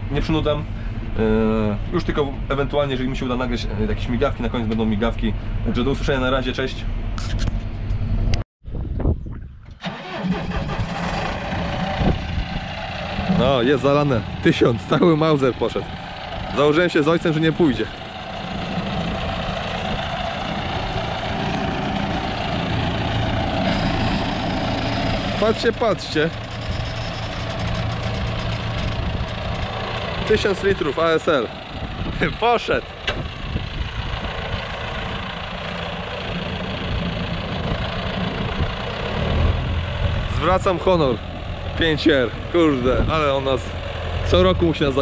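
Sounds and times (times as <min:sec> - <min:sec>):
tractor diesel engine running: 0:00.0 - 0:08.3, 0:09.8 - 0:45.0.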